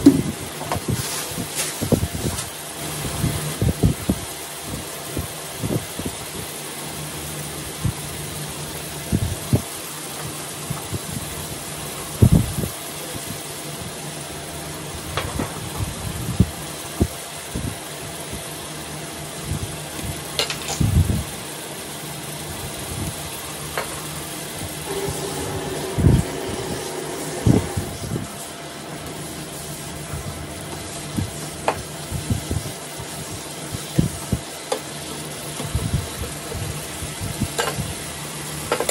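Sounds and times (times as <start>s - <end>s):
cooling fan hum: 0.0s - 38.9s.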